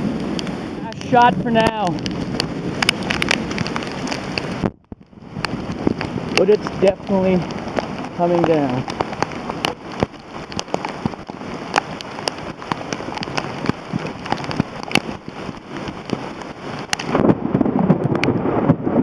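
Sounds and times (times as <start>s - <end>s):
heavy rain pouring: 0.0s - 19.0s
raindrops ticking on microphone: 0.0s - 19.0s
wind buffeting microphone: 0.0s - 19.0s.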